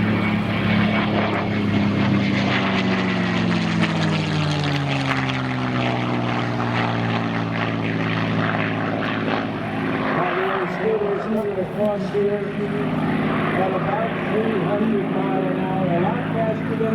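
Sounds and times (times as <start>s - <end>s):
propeller airplane passing low: 0.0s - 16.9s.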